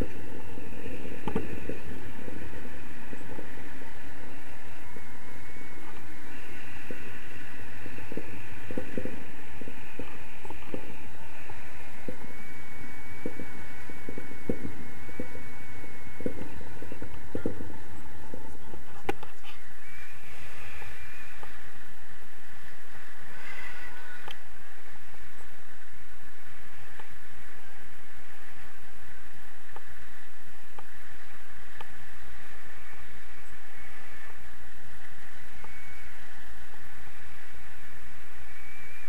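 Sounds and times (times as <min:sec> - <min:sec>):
thin steady high tone: 0:00.0 - 0:39.0
wind rushing over microphone: 0:00.0 - 0:39.0.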